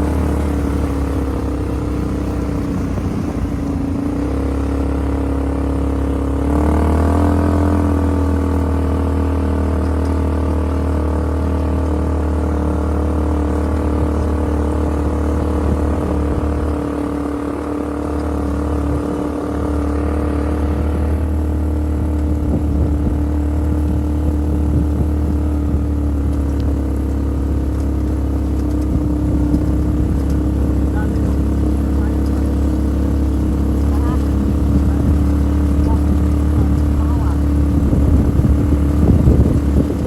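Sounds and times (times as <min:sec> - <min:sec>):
off-road vehicle engine running: 0:00.0 - 0:40.0.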